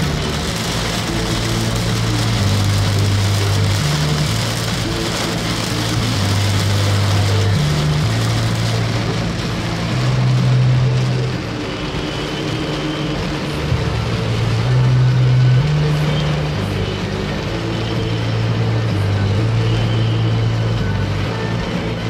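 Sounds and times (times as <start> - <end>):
heavy rain on car windscreen: 0.0 - 22.0
low hum shifting pitch: 0.0 - 22.0
tyre and road noise: 0.0 - 22.0.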